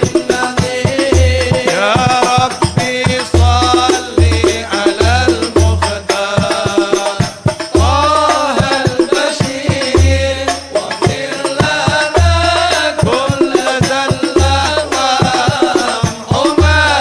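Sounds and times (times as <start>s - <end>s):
melodic music with percussion: 0.0s - 17.0s.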